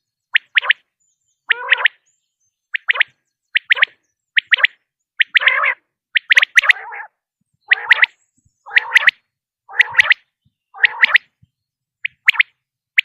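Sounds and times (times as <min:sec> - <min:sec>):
quail calling: 0:00.0 - 0:02.0, 0:02.8 - 0:11.4, 0:12.0 - 0:12.6.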